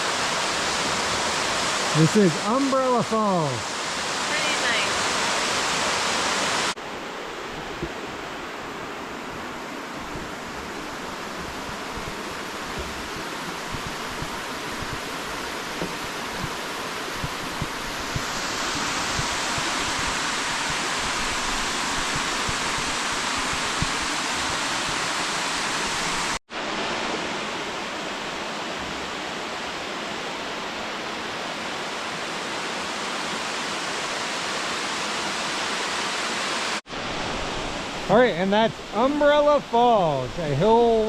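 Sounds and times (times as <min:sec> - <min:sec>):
small waterfall rushing: 0:00.0 - 0:41.0.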